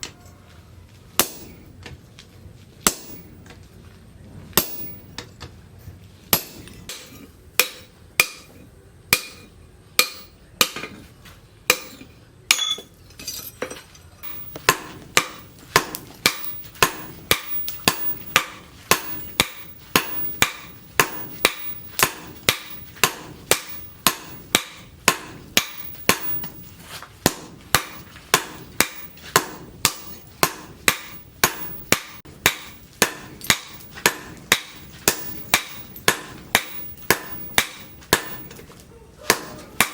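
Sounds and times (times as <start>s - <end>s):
hammer striking steel on anvil: 1.2s - 1.7s, 2.8s - 3.5s, 4.6s - 5.3s, 6.3s - 11.1s, 11.7s - 38.7s, 39.3s - 39.9s.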